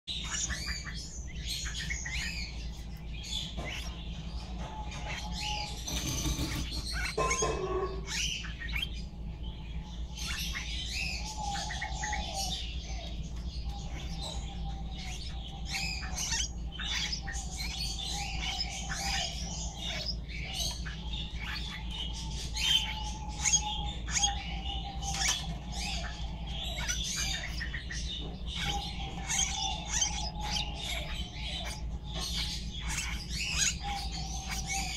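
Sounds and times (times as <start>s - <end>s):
small birds chirping: 0.0s - 34.9s
steady low hum: 0.1s - 34.9s.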